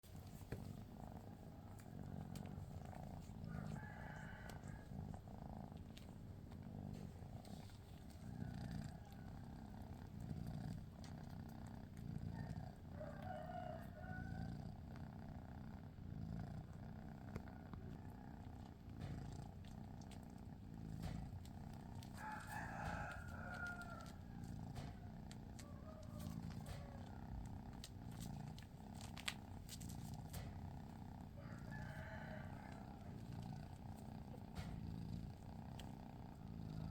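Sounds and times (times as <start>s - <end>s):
cat purring: 0.0s - 36.9s.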